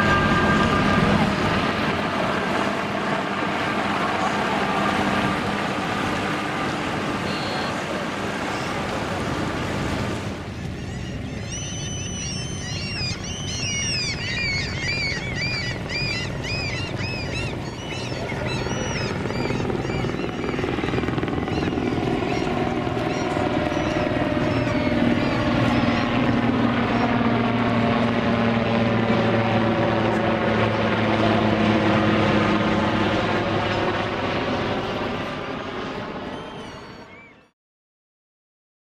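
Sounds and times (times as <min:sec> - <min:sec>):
helicopter flying overhead: 0:00.0 - 0:37.6.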